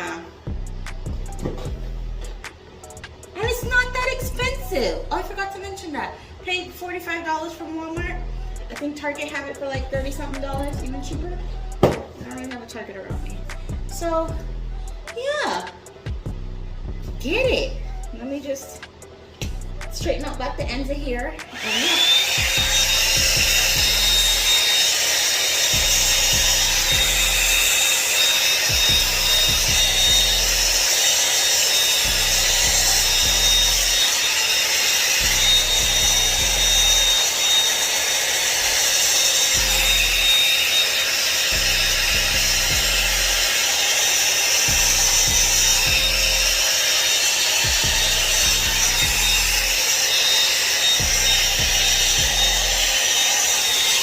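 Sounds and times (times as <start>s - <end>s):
hair dryer brush running: 0.0s - 54.0s.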